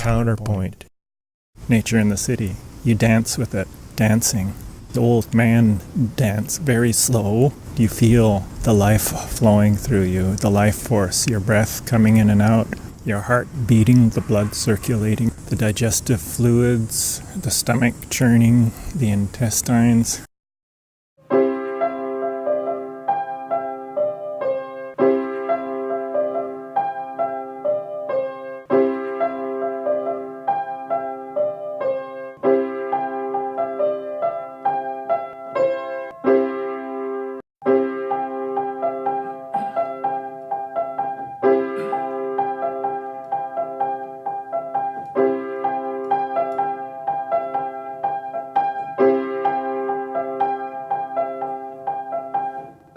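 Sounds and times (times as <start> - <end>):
piano music: 4.7 - 17.0, 21.2 - 52.9.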